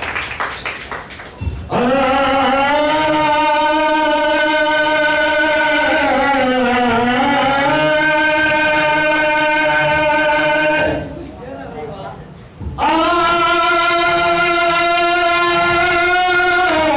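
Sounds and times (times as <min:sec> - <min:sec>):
man singing a long held note: 0:01.7 - 0:11.1, 0:12.8 - 0:16.9.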